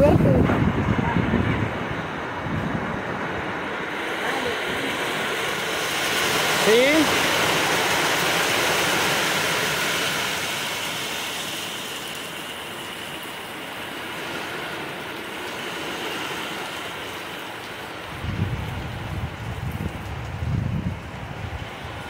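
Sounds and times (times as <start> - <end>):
heavy rain pouring on trees: 0.0 - 22.0.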